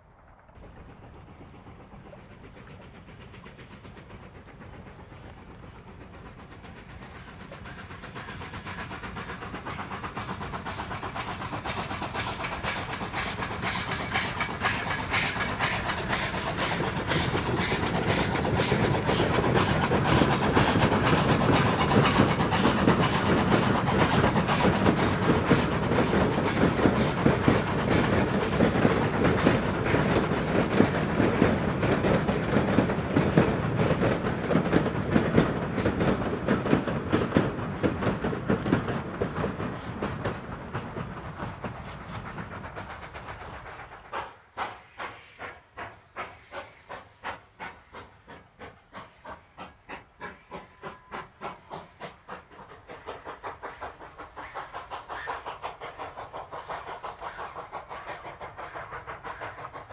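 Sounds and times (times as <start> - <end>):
steam train rumbling: 0.0 - 59.9.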